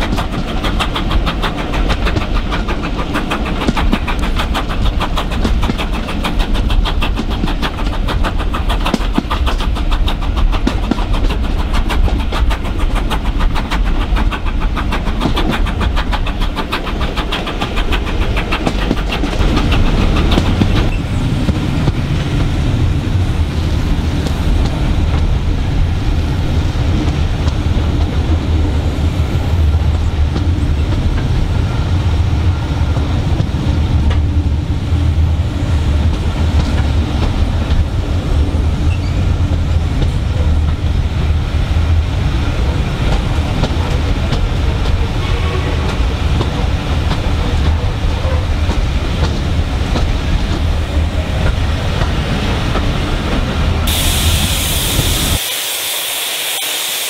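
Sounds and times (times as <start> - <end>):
carriages rumbling on rails: 0.0 - 57.0
steam train rhythmic beats: 0.0 - 57.0.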